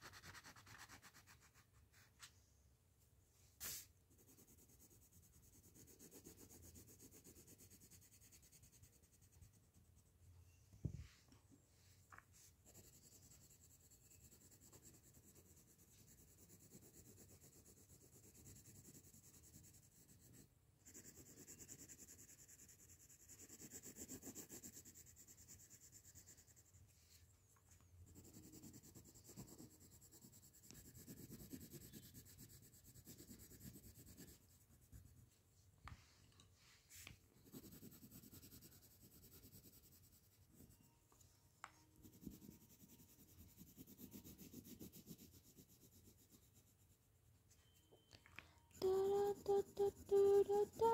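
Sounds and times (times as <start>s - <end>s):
pencil shading on paper: 0.0s - 2.1s, 3.6s - 10.2s, 12.4s - 27.0s, 27.8s - 35.3s, 37.4s - 41.0s, 41.9s - 47.8s, 48.8s - 50.9s.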